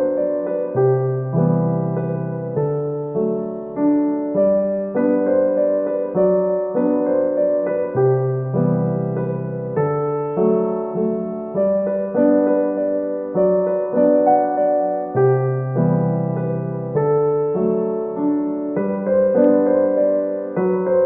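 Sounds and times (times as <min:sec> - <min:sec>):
electric piano chords: 0:00.0 - 0:21.0.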